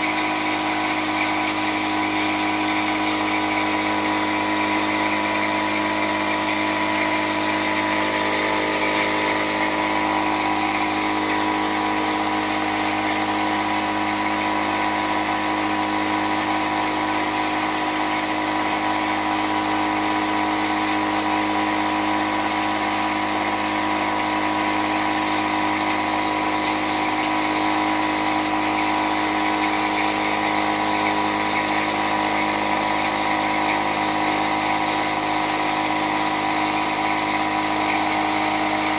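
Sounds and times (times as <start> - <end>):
dishwasher running: 0.0 - 38.9.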